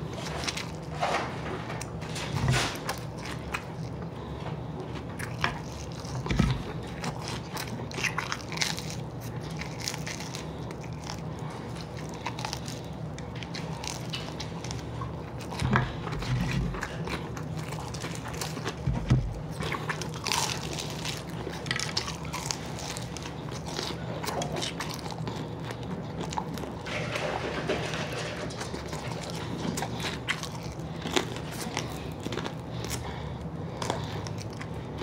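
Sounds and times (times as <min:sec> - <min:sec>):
crunchy chewing: 0:00.0 - 0:35.0.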